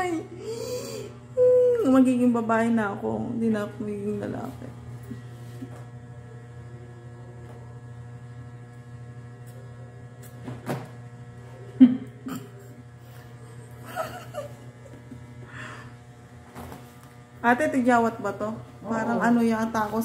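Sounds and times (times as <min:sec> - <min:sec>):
buzzing electrical hum: 0:00.0 - 0:20.0.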